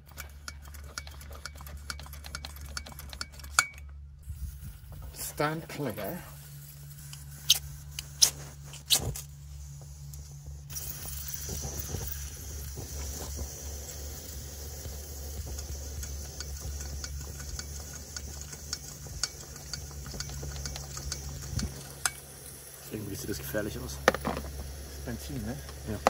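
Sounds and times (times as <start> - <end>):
low hum: 0.0 - 26.0
stove burner hissing: 0.0 - 26.0.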